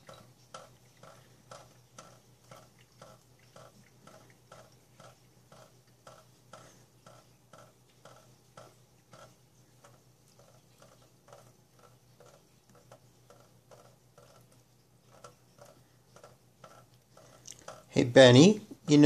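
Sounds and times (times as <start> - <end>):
water dripping into a sink: 0.0 - 17.9
low steady hum: 0.0 - 19.0.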